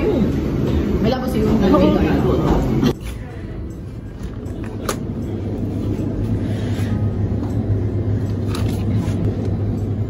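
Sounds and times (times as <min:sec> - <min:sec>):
refrigerator hum: 0:00.0 - 0:10.0.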